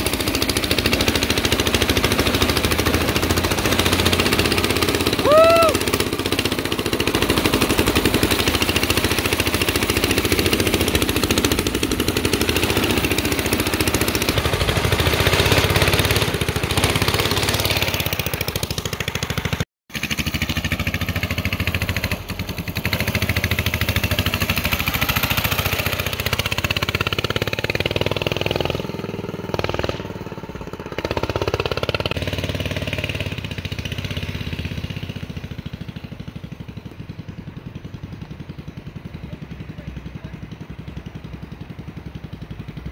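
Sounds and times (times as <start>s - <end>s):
go-kart engine running: 0.0s - 42.9s
wind and road noise: 0.0s - 42.9s.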